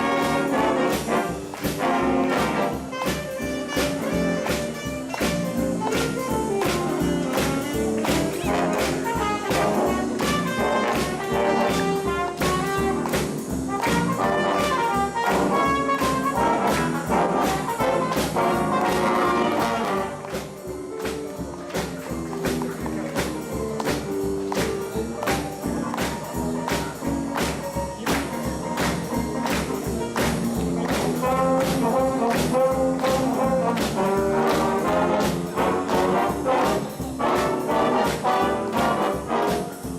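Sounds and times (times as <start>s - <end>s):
jazz big band playing: 0.0s - 39.9s
steady drum beat: 0.0s - 39.9s
trumpets and trombones: 0.0s - 39.9s.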